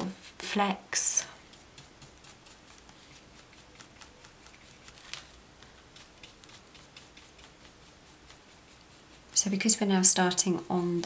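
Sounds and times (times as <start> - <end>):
paintbrush dabbing on paper: 0.4 - 11.0.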